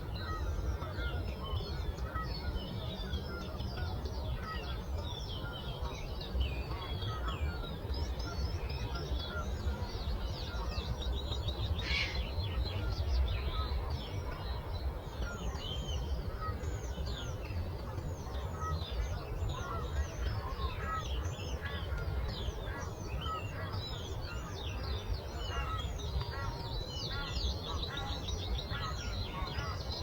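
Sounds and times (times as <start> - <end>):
songbirds chorus: 0.0 - 30.0.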